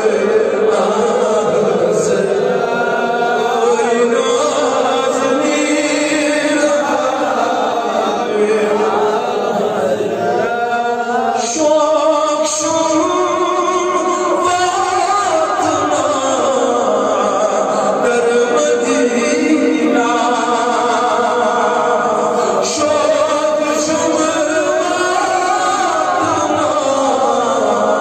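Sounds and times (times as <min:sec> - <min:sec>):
person chanting melodically: 0:00.0 - 0:28.0.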